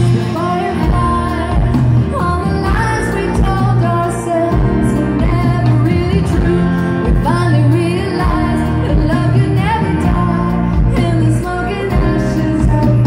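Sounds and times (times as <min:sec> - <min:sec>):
electric guitar: 0:00.0 - 0:13.0
live band playing: 0:00.0 - 0:13.0
woman singing: 0:00.0 - 0:13.0.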